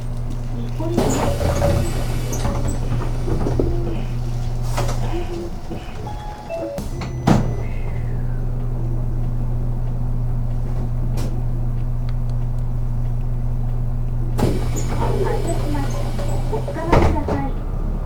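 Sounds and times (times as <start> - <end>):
bus engine hum: 0.0 - 18.0.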